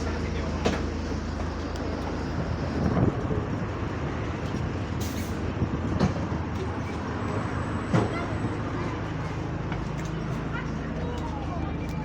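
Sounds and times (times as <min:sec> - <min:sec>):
bus body rattling: 0:00.0 - 0:11.9
bus engine humming: 0:00.0 - 0:12.0.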